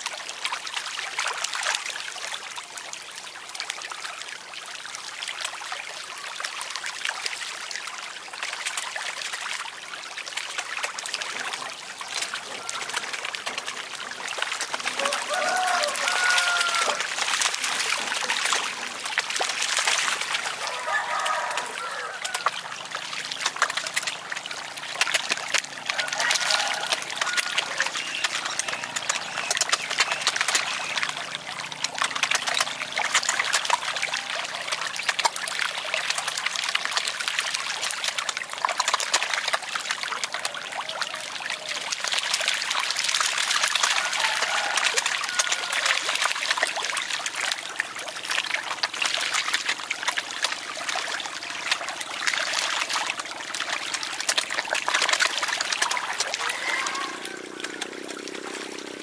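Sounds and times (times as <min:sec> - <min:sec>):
fish splashing in water: 0:00.0 - 0:59.0.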